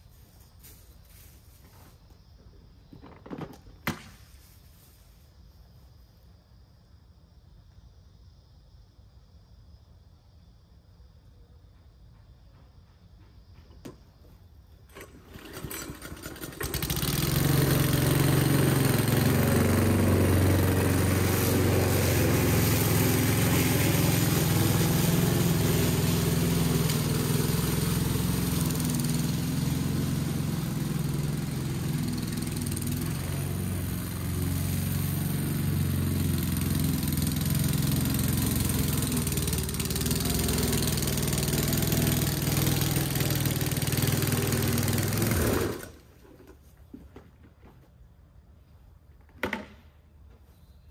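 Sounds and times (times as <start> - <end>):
lawn mower engine starting: 0.0 - 5.2, 13.8 - 48.4, 49.1 - 50.1.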